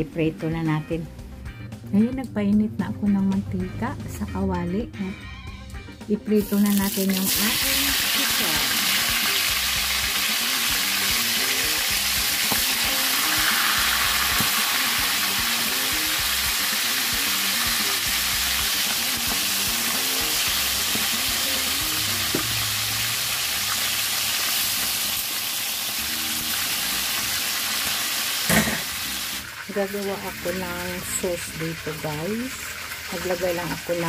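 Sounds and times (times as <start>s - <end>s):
chicken sizzling in hot oil: 6.4s - 34.0s.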